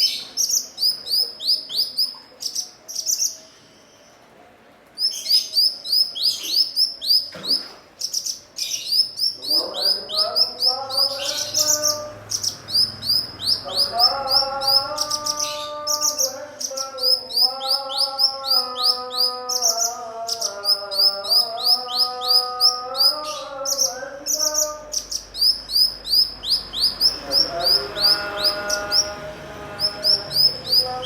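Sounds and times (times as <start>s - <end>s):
songbird chirping: 0.0s - 31.0s.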